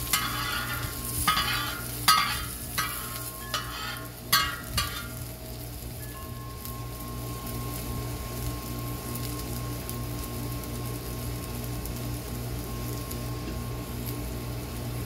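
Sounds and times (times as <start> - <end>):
food sizzling: 0.0 - 15.0
steady low hum: 0.0 - 15.0.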